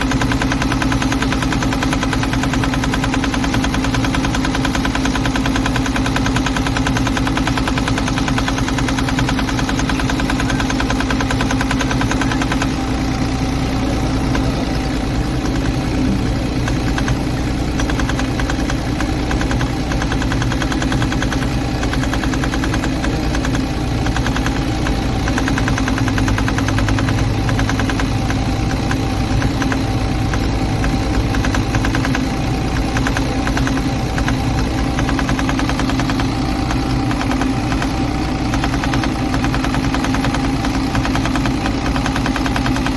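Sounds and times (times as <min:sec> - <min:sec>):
excavator diesel engine knocking: 0:00.0 - 0:42.9.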